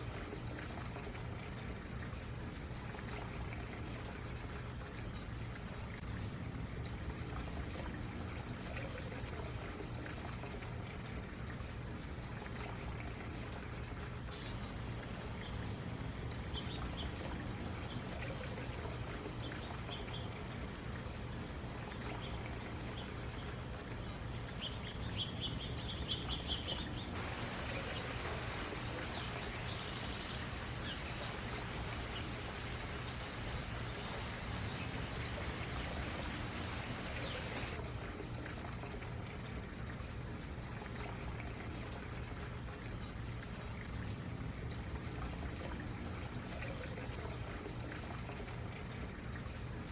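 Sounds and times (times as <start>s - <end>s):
stream trickling: 0.0s - 49.9s.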